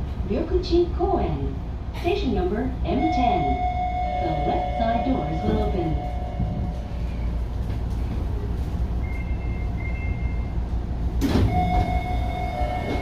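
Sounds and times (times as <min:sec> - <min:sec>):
train low hum: 0:00.0 - 0:13.0.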